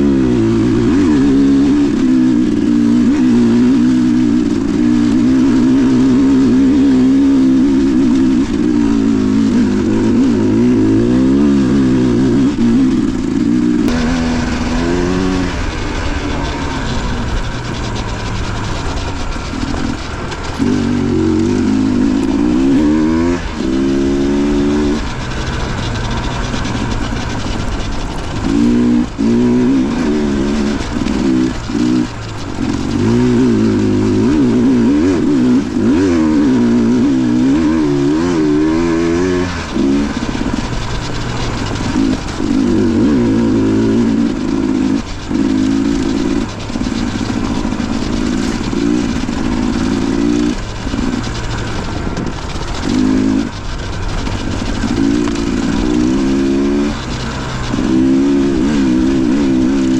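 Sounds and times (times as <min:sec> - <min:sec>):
dirt bike engine revving: 0:00.0 - 0:59.9
wind noise on microphone: 0:00.0 - 0:59.9.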